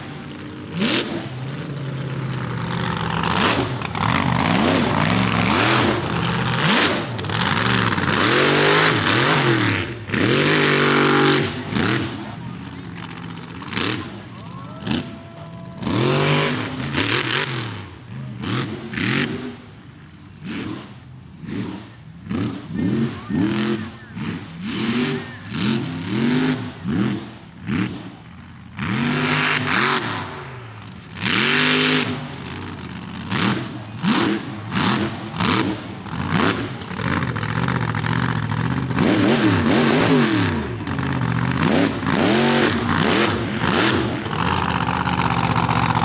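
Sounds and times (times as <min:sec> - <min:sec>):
truck engine revving hard: 0:00.0 - 0:19.6, 0:20.4 - 0:46.0.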